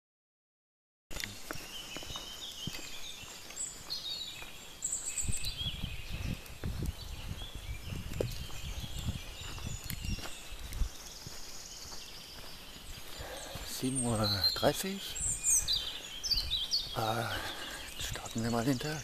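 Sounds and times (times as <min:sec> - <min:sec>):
birds chirping: 0:01.1 - 0:19.0
footsteps on dirt path: 0:01.1 - 0:19.0.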